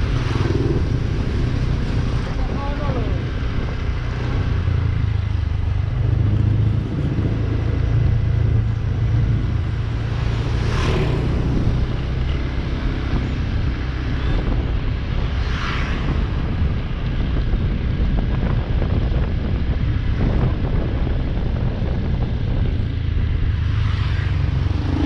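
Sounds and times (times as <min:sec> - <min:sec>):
motorcycle engine cruising: 0:00.0 - 0:25.0
road and wind noise: 0:00.0 - 0:25.0.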